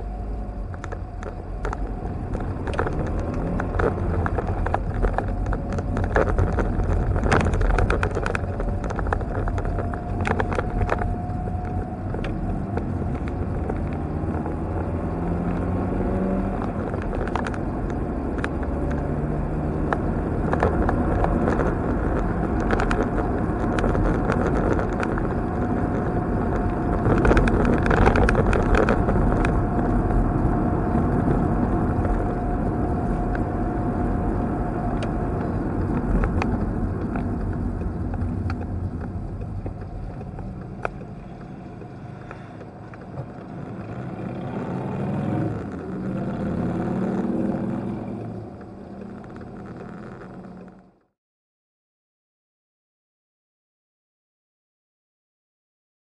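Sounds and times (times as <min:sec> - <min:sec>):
car engine and road noise: 0:00.0 - 0:51.2.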